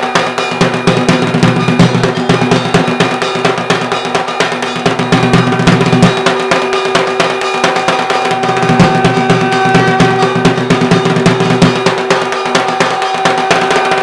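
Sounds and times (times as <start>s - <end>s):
fast drumming: 0.0s - 14.0s
melody instrument holding long notes: 0.0s - 14.0s.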